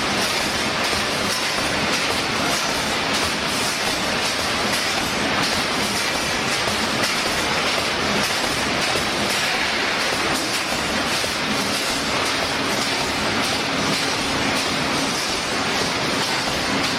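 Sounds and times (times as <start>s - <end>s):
welding machine clatter and hiss: 0.0s - 16.9s.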